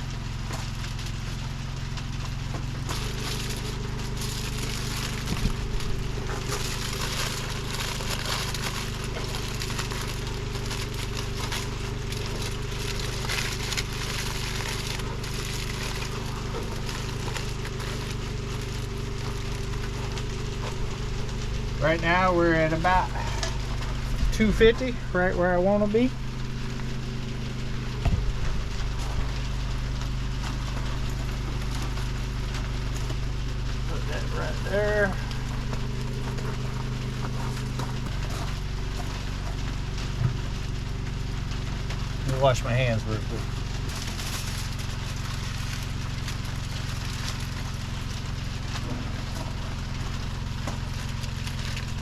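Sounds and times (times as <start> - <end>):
low hum: 0.0 - 52.0
wood chips crackling and popping: 0.0 - 52.0.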